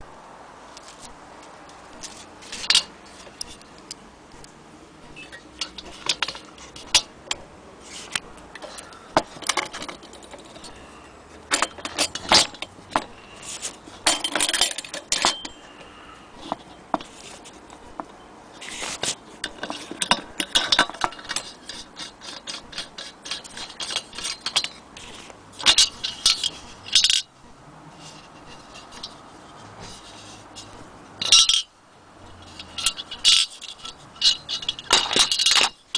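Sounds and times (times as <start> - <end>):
metal parts clinking and rattling: 2.0 - 3.7, 5.2 - 15.8, 16.4 - 27.3, 28.0 - 35.9.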